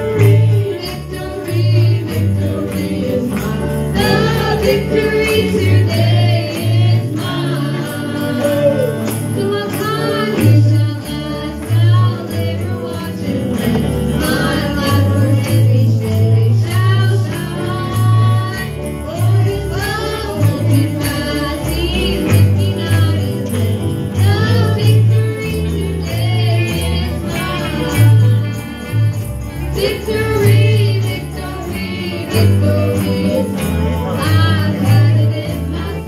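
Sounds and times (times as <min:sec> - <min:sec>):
group of singers: 0:00.0 - 0:36.0
tambourine jingling: 0:00.0 - 0:36.0.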